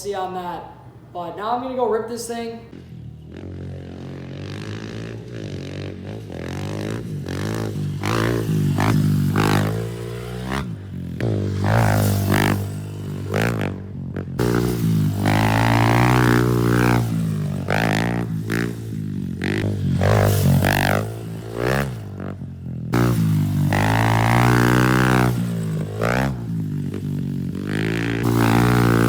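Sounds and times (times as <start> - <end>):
bending lead line: 0.0 - 5.4, 6.0 - 29.0.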